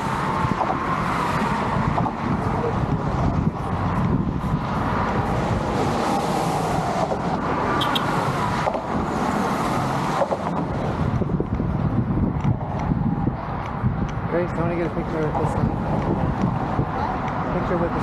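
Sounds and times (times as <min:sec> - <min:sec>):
road traffic noise: 0:00.0 - 0:18.0
wind buffeting microphone: 0:00.0 - 0:18.0.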